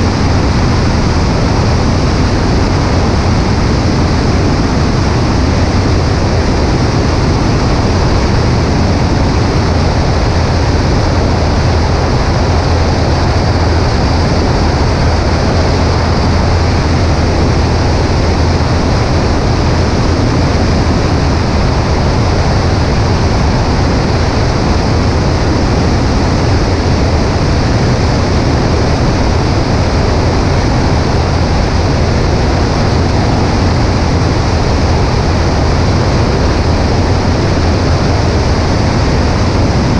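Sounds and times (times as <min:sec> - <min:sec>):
light aircraft engine drone: 0:00.0 - 0:39.9
rushing wind noise: 0:00.0 - 0:39.9.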